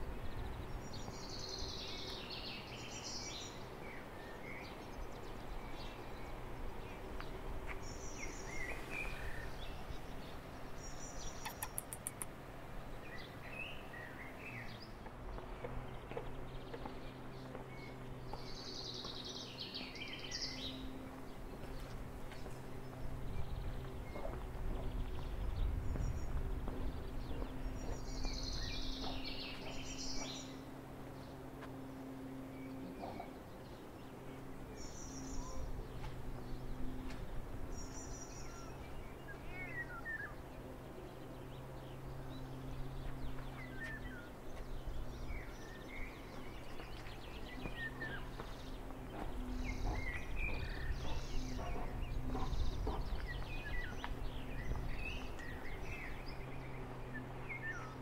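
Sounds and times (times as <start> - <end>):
steady low hum: 0.0 - 58.0
birds chirping and calling: 0.2 - 12.3, 12.9 - 31.7, 32.5 - 58.0.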